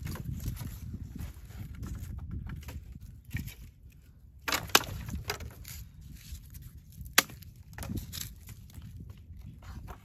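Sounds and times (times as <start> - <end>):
dry sticks rustling and scraping: 0.0 - 10.0
wood cracking: 1.6 - 10.0.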